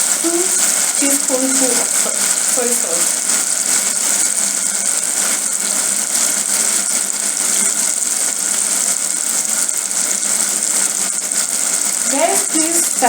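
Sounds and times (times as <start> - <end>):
sauce sizzling in frying pan: 0.0 - 13.0.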